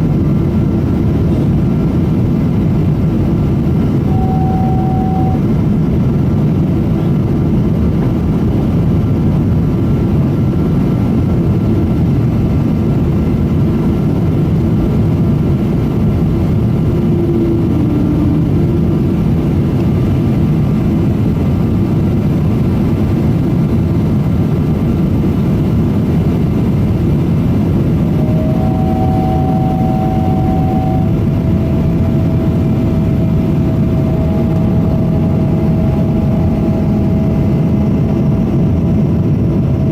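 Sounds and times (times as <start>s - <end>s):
aircraft cabin engine rumble: 0.0s - 39.9s
faint steady whines: 0.0s - 39.9s
steady whine: 0.0s - 39.9s.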